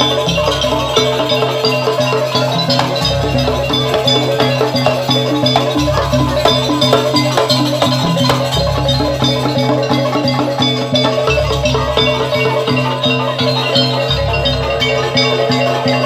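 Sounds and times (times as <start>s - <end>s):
drums: 0.0s - 16.0s
metallophones playing melody: 0.0s - 16.0s.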